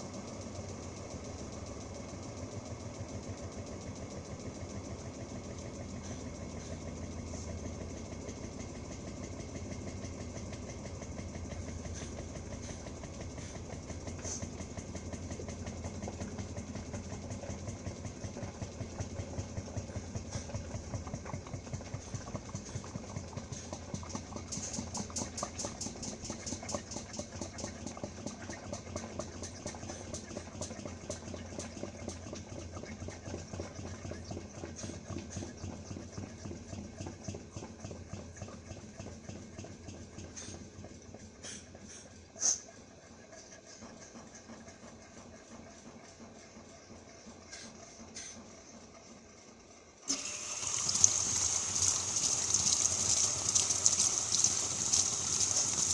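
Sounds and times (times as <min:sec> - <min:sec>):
washing machine motor hum: 0:00.0 - 0:55.9
washing machine pulsing: 0:00.0 - 0:55.9.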